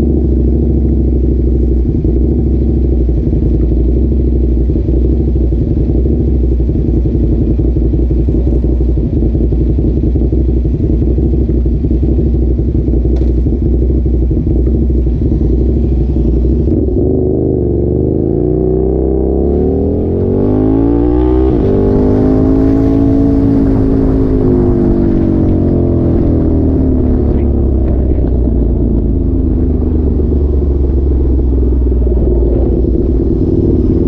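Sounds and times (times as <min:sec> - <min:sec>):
engine running with rapid throb: 0:00.0 - 0:34.0.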